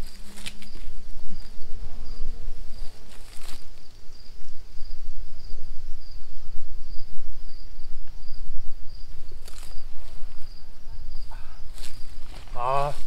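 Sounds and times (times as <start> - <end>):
insect chirping: 0.0 - 13.0
wind on microphone: 0.0 - 13.0.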